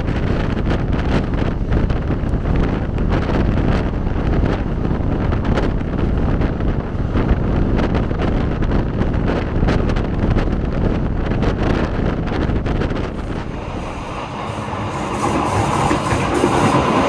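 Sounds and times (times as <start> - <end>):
train rumble and air rush: 0.0 - 17.0
wind buffeting microphone: 0.0 - 17.0.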